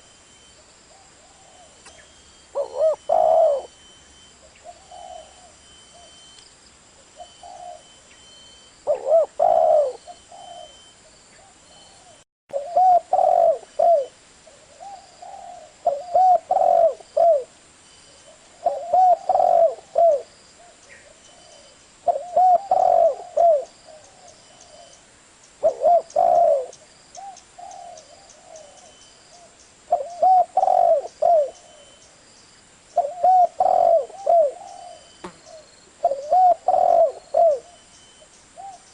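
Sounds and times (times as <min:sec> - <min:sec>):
dove cooing: 0:00.9 - 0:06.2, 0:07.1 - 0:08.0, 0:08.8 - 0:25.0, 0:25.6 - 0:32.0, 0:33.0 - 0:37.9, 0:38.6 - 0:38.9.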